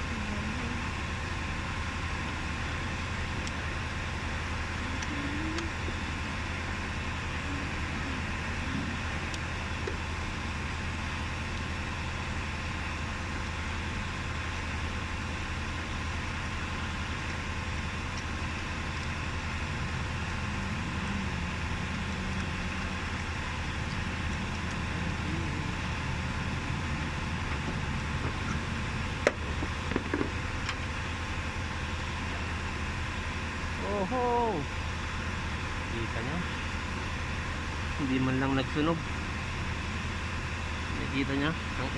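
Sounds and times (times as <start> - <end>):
vehicle engine idling: 0.0 - 41.9.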